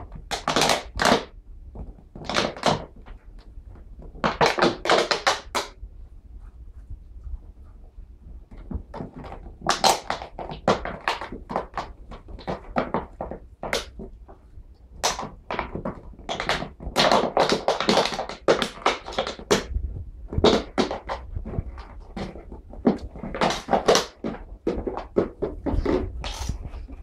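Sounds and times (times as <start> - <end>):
rapid knocks and taps: 0.0 - 5.8, 7.6 - 27.0.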